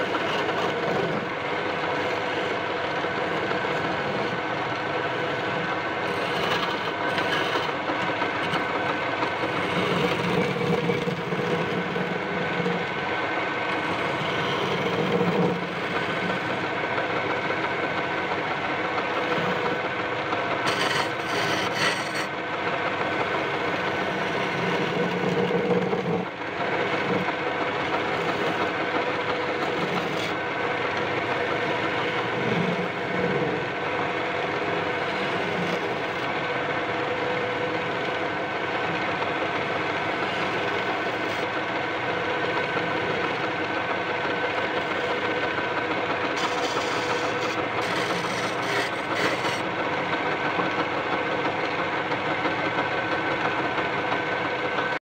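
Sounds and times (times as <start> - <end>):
turning tool scraping wood: 0.0 - 52.6
wood lathe running: 0.0 - 55.0.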